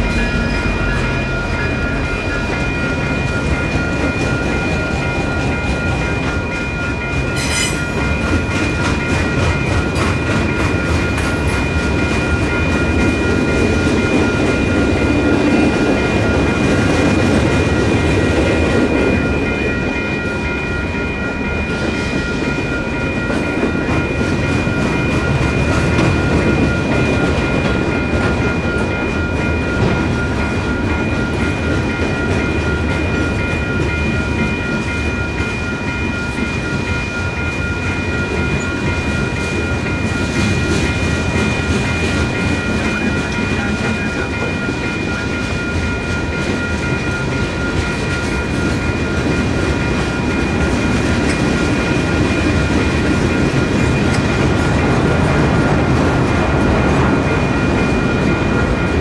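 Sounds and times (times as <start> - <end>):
crossing bells ringing: 0.0 - 59.0
train wheels rumbling on rails: 0.0 - 59.0.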